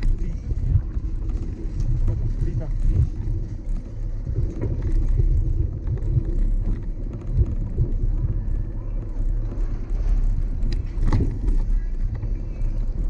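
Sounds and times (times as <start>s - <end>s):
faint ticks and clicks: 0.0s - 13.0s
low buffeting rumble: 0.0s - 13.0s.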